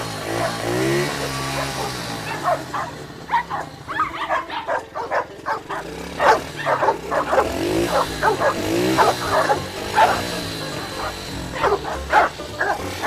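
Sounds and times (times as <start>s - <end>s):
dog barking and yipping: 0.0s - 13.0s.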